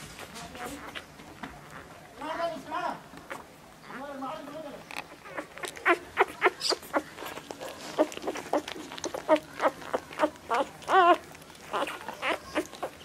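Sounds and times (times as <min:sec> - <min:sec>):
puppies squeaking and whimpering: 0:00.3 - 0:02.4, 0:03.0 - 0:13.0.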